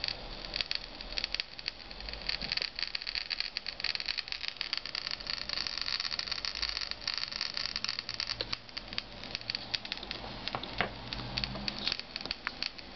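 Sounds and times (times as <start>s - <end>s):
radiation detector clicking: 0.0s - 12.9s.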